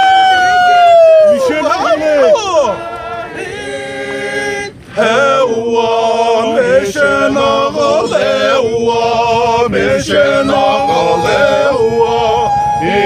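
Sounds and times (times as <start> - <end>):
men chanting together: 1.7 - 13.0.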